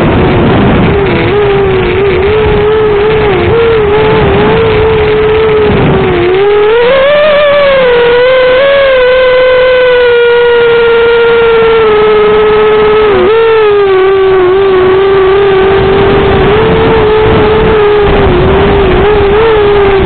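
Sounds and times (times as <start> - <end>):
drone motors whining: 0.0 - 20.0
wind noise rumble: 0.0 - 20.0.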